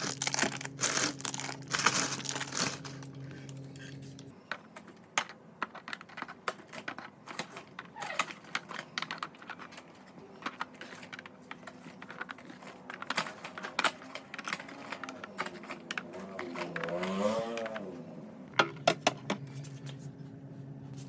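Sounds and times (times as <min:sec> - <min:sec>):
containers and packaging clicking: 0:00.0 - 0:03.9, 0:04.5 - 0:17.9.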